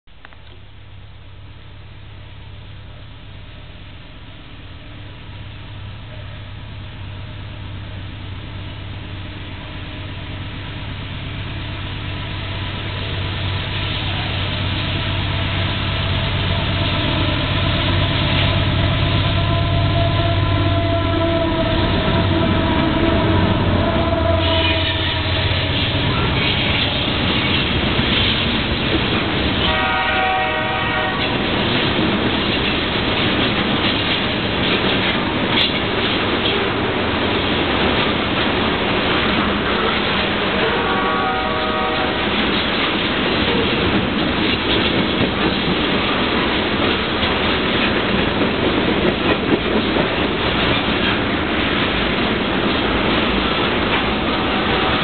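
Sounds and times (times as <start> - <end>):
diesel locomotive engine drone: 0.1 - 55.0
train wheels rolling on rail: 0.1 - 55.0.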